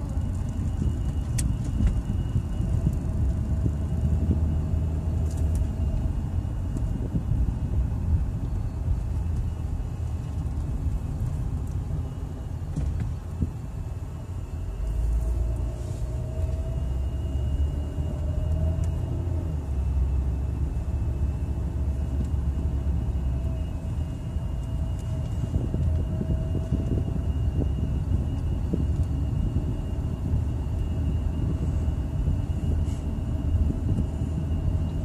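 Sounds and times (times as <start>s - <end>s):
engine and tyre rumble: 0.0s - 35.0s
faint steady whine: 0.0s - 35.0s.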